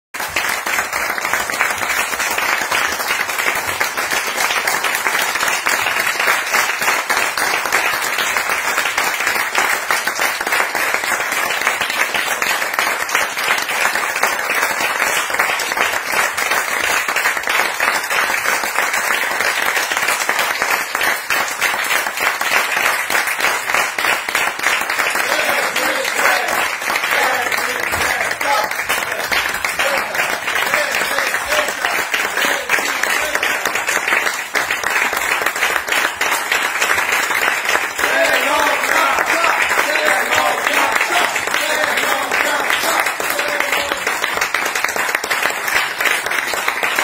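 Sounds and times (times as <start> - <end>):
audience clapping: 0.0 - 47.0.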